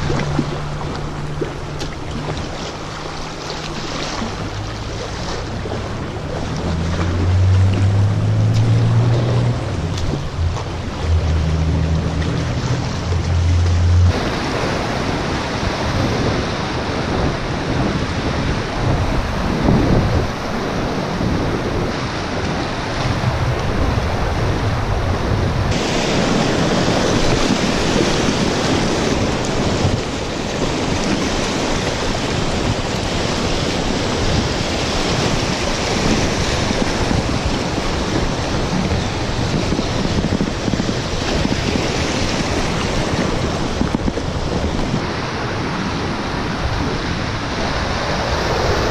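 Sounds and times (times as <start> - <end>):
rapids rushing and splashing: 0.0 - 48.9
wind buffeting microphone: 0.0 - 48.9.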